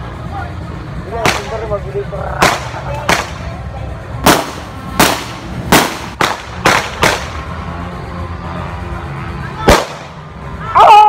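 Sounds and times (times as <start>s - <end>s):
firecrackers banging: 0.9s - 10.6s.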